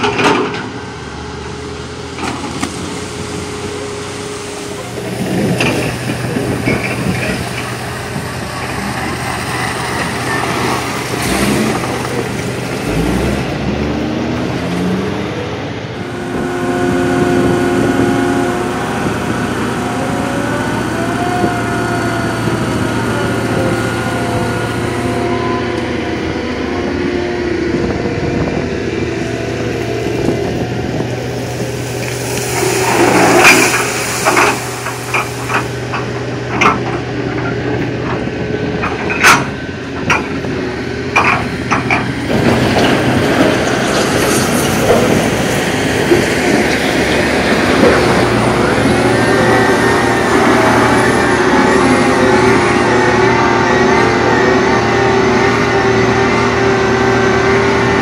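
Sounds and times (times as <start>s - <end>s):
heavy diesel engine running: 0.0s - 58.0s
wheel loader engine revving: 0.0s - 58.0s.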